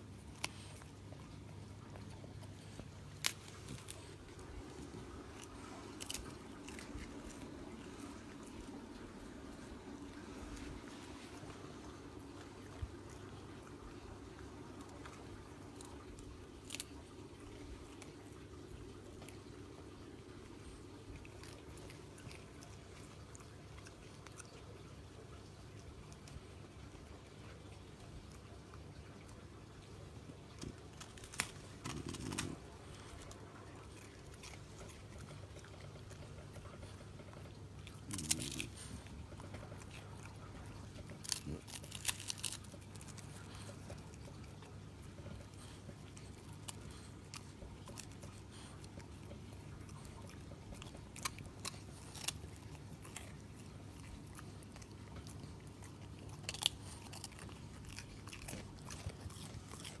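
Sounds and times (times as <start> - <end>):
dog chewing crisp crackers: 0.0 - 60.0.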